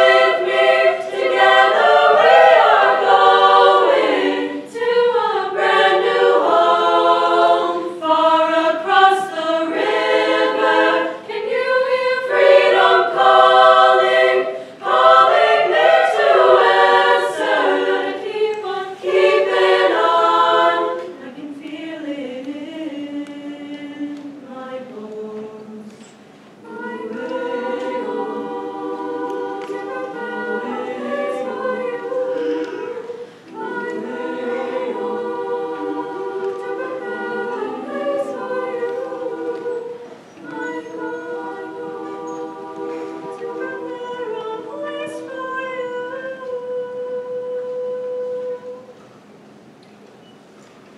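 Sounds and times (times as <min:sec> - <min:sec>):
choir singing in harmony: 0:00.0 - 0:49.6.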